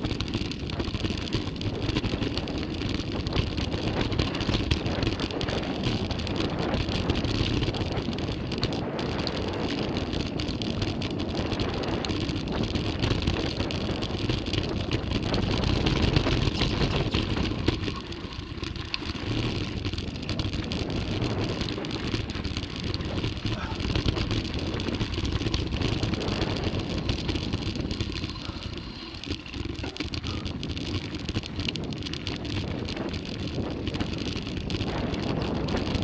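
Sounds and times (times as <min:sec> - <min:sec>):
bike tyres rattling over ground: 0:00.0 - 0:36.0
wind on microphone: 0:00.0 - 0:36.0.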